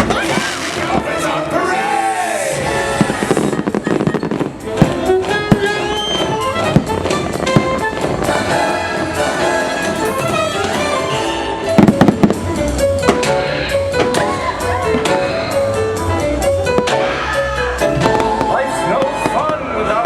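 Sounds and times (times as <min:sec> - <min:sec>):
fireworks bangs: 0:00.0 - 0:01.4, 0:02.8 - 0:16.0, 0:17.9 - 0:20.0
orchestral music: 0:00.0 - 0:20.0.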